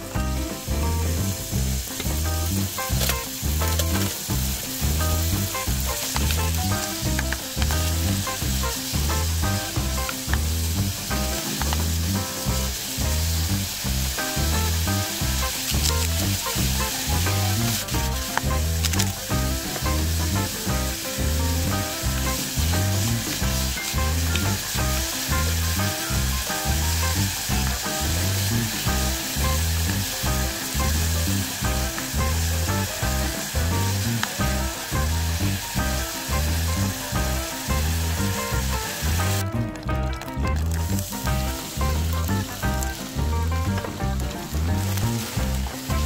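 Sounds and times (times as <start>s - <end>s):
background music with steady beat: 0.0s - 46.0s
beef sizzling in hot oil: 0.0s - 46.0s
spatula turning meat: 0.0s - 46.0s.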